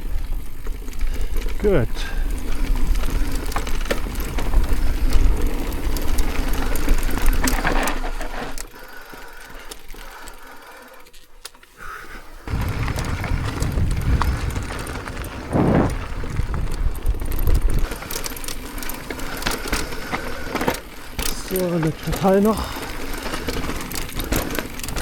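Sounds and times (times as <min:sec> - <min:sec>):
bike clicking and rattling: 0:00.0 - 0:25.0
bike rolling on trail: 0:00.0 - 0:25.0.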